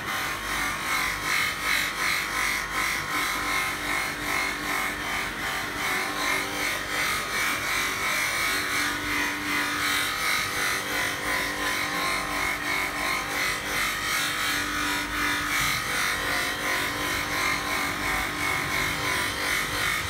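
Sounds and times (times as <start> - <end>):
buffing machine whirring: 0.0 - 20.0.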